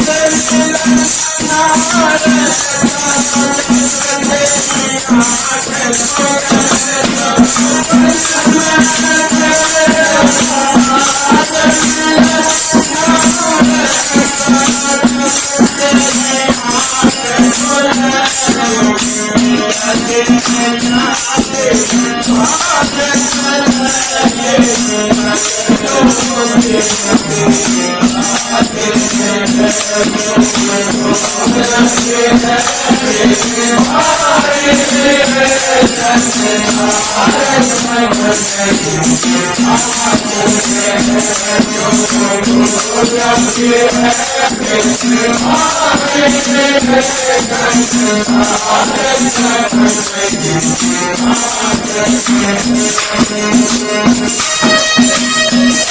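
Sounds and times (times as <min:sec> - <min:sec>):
devotional song melody: 0:00.0 - 0:55.9
rattling hand percussion: 0:00.0 - 0:55.9.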